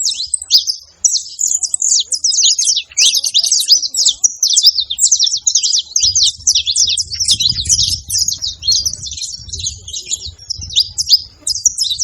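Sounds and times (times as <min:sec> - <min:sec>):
finch singing quick chirps: 0:00.0 - 0:12.0.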